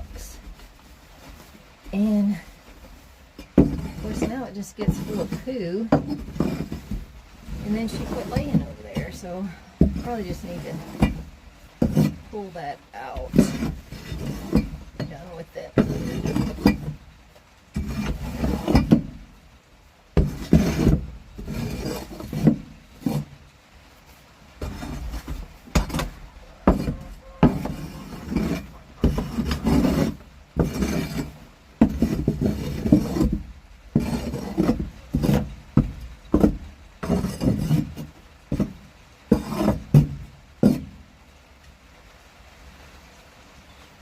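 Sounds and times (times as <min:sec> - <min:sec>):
scraping through wood shavings: 0:00.0 - 0:17.1, 0:17.7 - 0:19.3, 0:20.2 - 0:23.4, 0:24.0 - 0:40.9.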